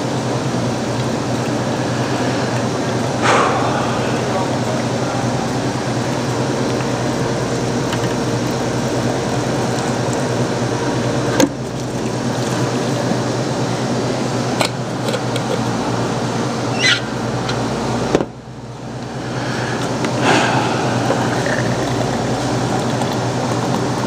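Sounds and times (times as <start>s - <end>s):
coffee dispenser humming: 0.0s - 24.0s.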